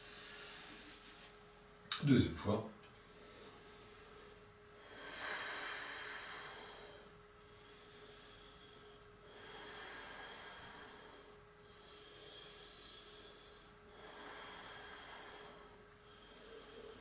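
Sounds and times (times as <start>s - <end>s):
soft hissing inhales: 0.0s - 1.4s, 3.1s - 17.0s.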